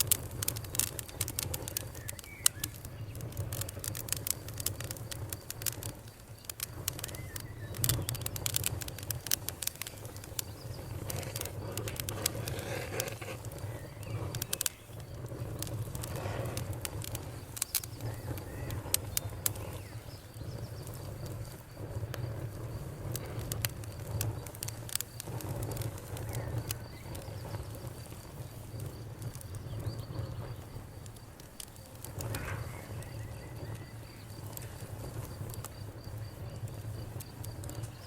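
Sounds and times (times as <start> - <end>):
bonfire crackling: 0.0 - 38.0
crickets chirping faintly: 0.0 - 38.0.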